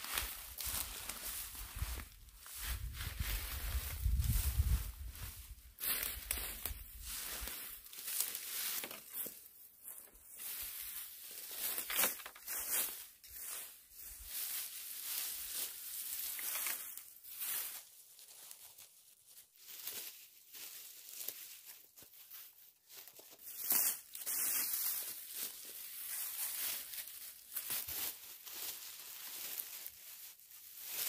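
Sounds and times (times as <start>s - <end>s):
dry grass rustling as pulled up: 0.0s - 31.0s.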